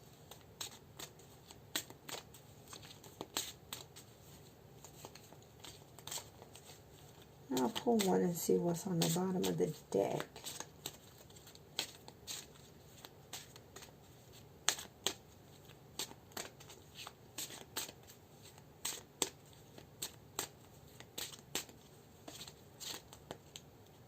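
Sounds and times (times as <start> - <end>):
cards being shuffled: 0.1 - 24.0.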